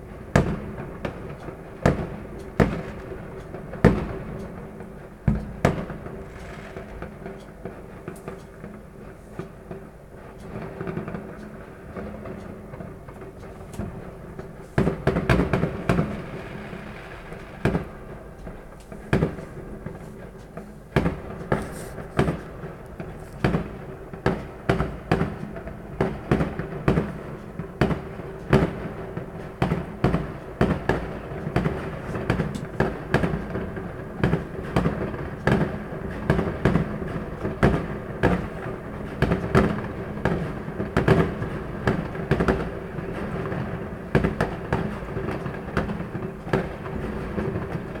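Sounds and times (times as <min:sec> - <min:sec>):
fireworks crackling: 0:00.0 - 0:09.5, 0:11.9 - 0:48.0
fireworks banging: 0:00.0 - 0:48.0.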